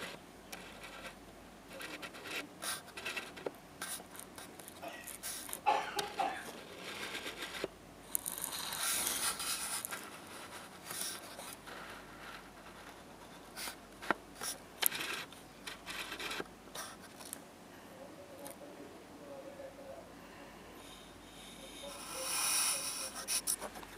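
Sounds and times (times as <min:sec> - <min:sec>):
fingers scratching on camera: 0:00.0 - 0:17.4, 0:21.8 - 0:23.9.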